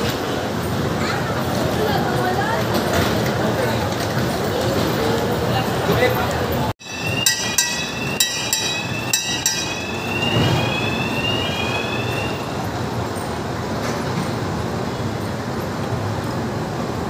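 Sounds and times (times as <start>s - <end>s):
ride train rumbling: 0.0s - 17.0s.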